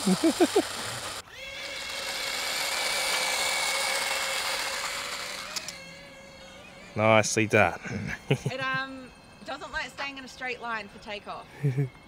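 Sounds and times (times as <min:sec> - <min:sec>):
electric ducted fans whining: 0:00.0 - 0:12.0.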